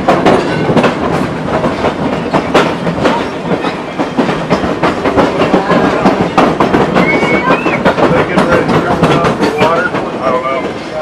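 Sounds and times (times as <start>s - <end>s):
train running noise: 0.0s - 11.0s
wheels clicking over rail joints: 0.0s - 11.0s.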